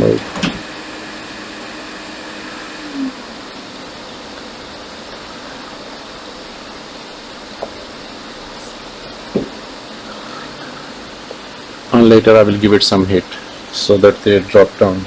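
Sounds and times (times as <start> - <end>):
hot air station blowing: 0.0 - 15.0.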